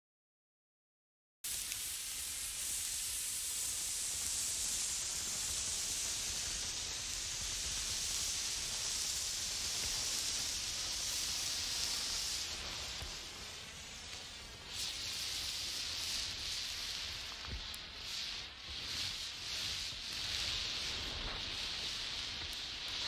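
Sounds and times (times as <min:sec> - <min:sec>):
steady high-pitched hiss: 0:01.5 - 0:23.0.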